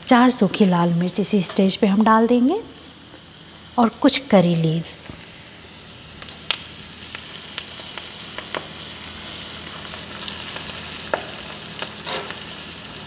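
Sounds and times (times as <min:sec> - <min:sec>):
hot oil sizzling with pops: 0:00.0 - 0:13.0.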